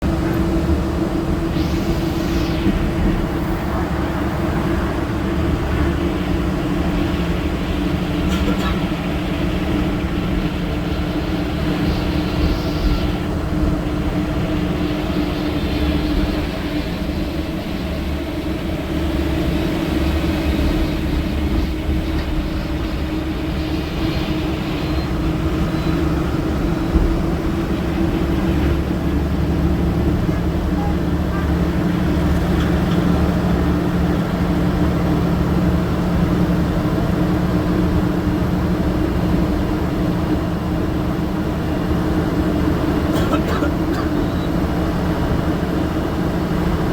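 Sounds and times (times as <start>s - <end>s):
bus engine droning: 0.0s - 46.9s
low road rumble: 0.0s - 46.9s.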